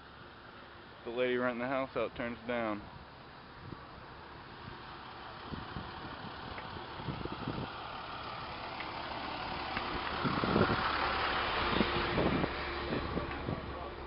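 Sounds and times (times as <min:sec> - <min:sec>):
car engine: 0:00.0 - 0:14.0
road noise: 0:00.0 - 0:14.0.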